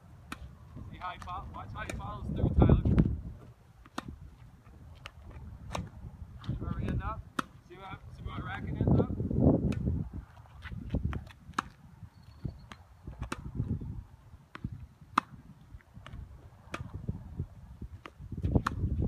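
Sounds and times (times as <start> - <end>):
tennis balls struck and bouncing: 0.2 - 11.9, 12.6 - 13.8, 14.4 - 17.1, 17.8 - 19.0.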